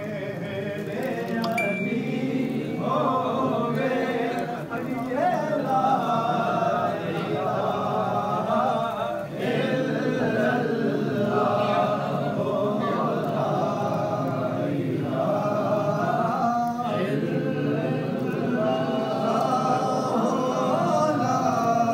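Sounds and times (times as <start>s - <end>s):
men chanting in long notes: 2.1s - 21.9s.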